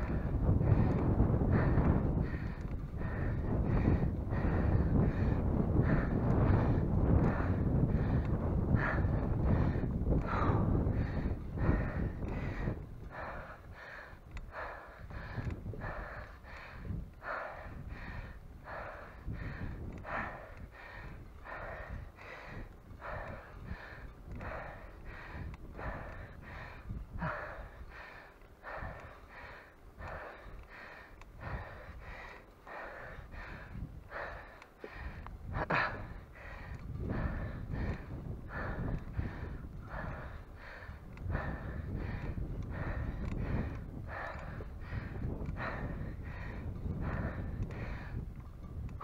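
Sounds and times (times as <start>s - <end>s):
heavy laboured breathing: 0.0s - 49.0s.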